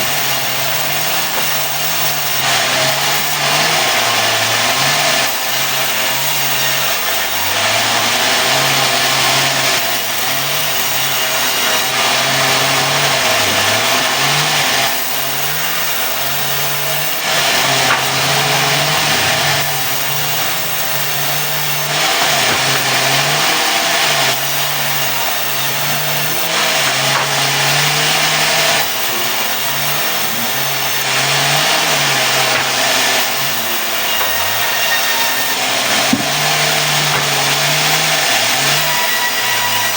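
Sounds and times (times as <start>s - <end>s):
saw cutting wood hiss: 0.0s - 39.9s
sawmill engine: 0.0s - 39.9s.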